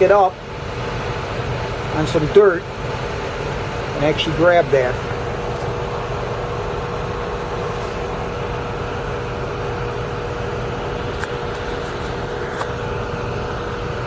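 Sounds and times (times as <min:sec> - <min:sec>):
diesel engine running with whine: 0:00.0 - 0:14.0.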